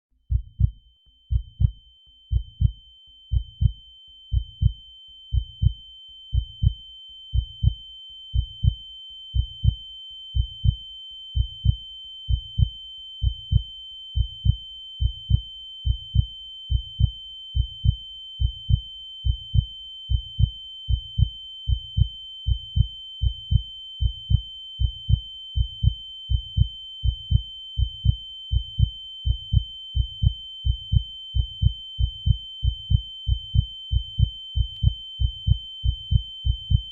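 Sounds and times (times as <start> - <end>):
heartbeat thumps: 0.3 - 6.8, 7.4 - 7.8, 8.4 - 8.8, 9.4 - 9.8, 10.4 - 10.8, 11.4 - 36.9.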